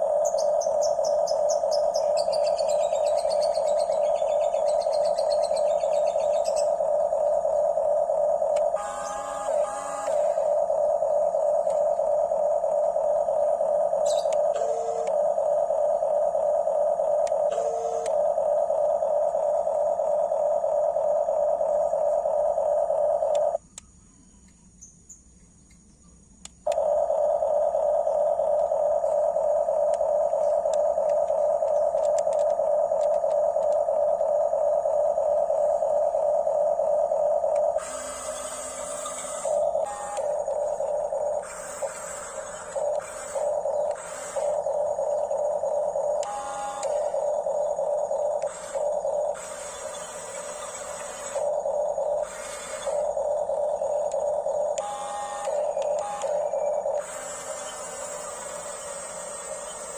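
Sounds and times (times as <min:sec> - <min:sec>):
toy motor and gears whining: 0:00.0 - 0:23.9, 0:26.4 - 0:59.9.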